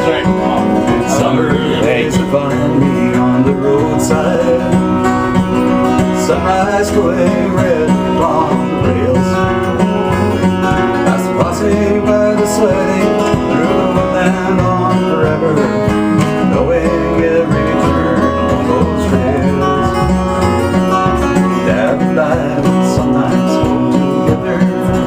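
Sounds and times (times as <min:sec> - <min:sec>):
fingerpicked acoustic string instrument: 0:00.0 - 0:25.0.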